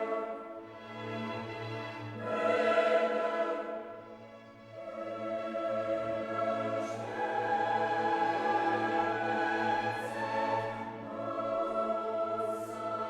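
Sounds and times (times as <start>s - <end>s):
choir singing held chords: 0.0s - 0.7s, 2.0s - 13.0s.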